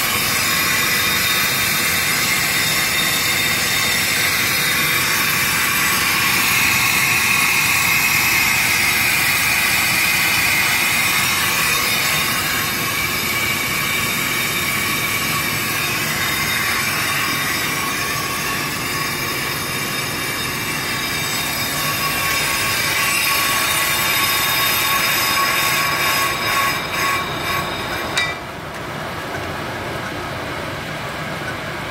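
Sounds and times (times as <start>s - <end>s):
brake lathe cutting squeal: 0.0s - 28.5s.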